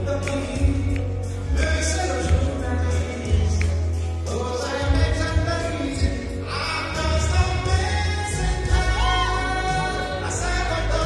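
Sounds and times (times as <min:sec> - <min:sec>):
man singing into microphone: 0:00.0 - 0:11.0
music with heavy bass: 0:00.0 - 0:11.0.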